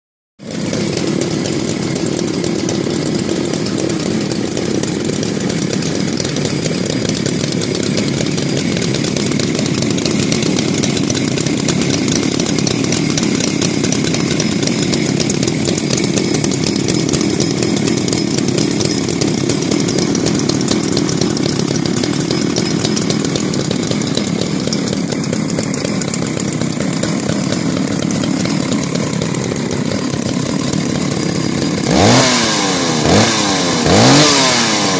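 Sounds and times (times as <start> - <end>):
two-stroke chainsaw running: 0.4 - 34.9.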